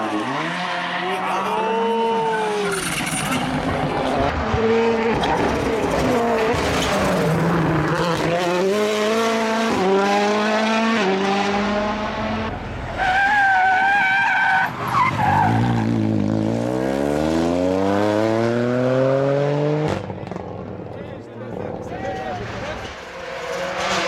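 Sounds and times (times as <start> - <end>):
rally car engine accelerating: 0.0 - 12.7, 15.0 - 24.0.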